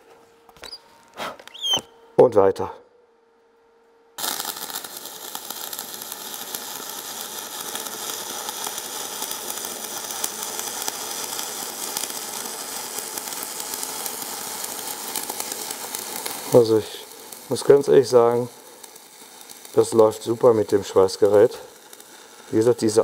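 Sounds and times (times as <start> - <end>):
welding arc hissing and crackling: 4.2 - 23.0.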